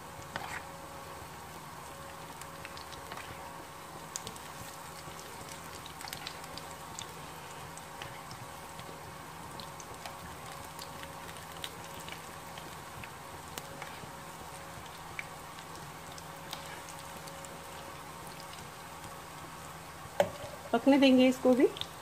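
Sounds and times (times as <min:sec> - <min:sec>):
food frying in hot oil: 0:00.0 - 0:22.0
oil popping and crackling: 0:01.9 - 0:22.0.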